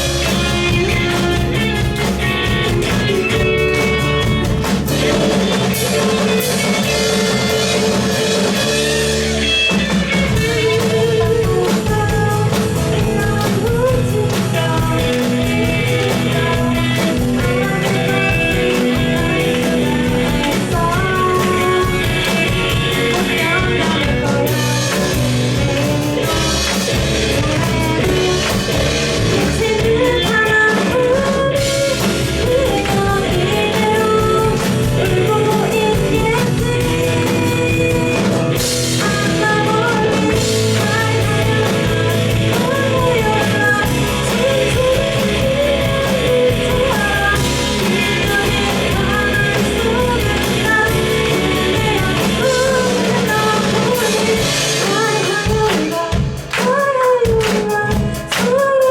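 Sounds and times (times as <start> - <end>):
pop-rock band playing: 0.0 - 58.9
lead vocal singing: 4.9 - 58.9.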